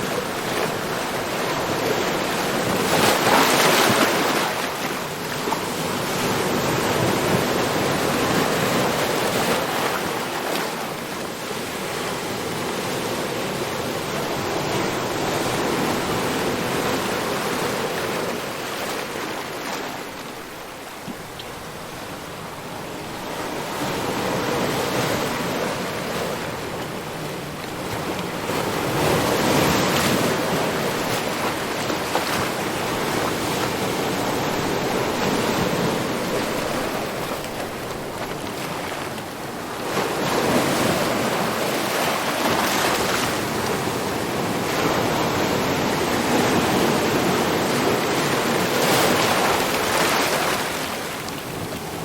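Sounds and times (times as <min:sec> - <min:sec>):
waves breaking and washing in: 0:00.0 - 0:52.0.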